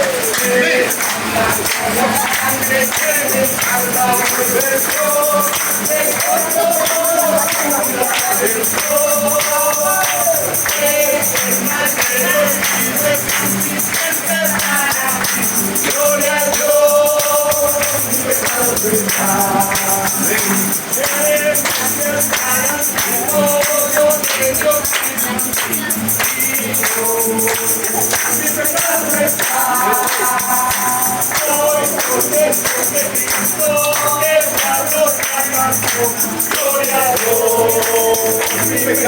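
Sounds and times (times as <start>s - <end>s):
group singing a hymn: 0.0s - 39.0s
tambourine beat: 0.0s - 39.0s.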